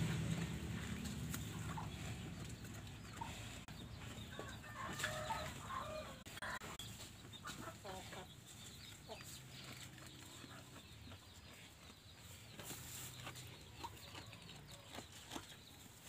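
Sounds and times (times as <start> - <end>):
chickens clucking faintly: 0.0 - 16.0.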